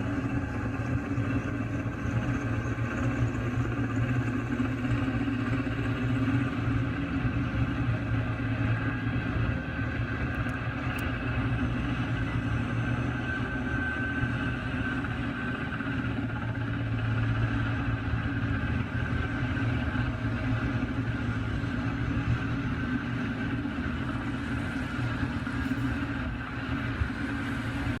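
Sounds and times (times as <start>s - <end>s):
helicopter engine and rotor drone: 0.0s - 28.0s
high steady whine: 0.0s - 28.0s.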